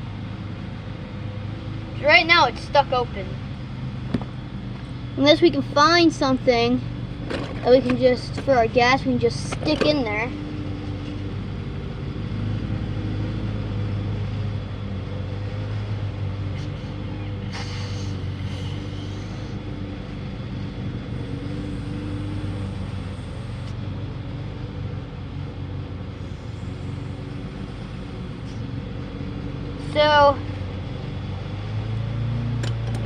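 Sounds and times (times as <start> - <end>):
low motor drone: 0.0 - 33.0.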